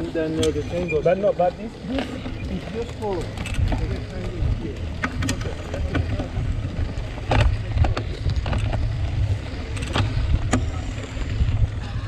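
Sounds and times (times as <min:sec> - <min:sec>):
faint voices: 0:00.0 - 0:12.0
wind buffeting microphone: 0:02.2 - 0:12.0.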